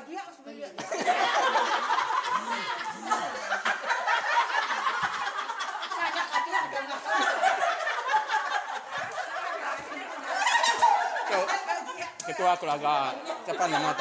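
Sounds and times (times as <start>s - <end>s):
women laughing: 0.8s - 12.6s.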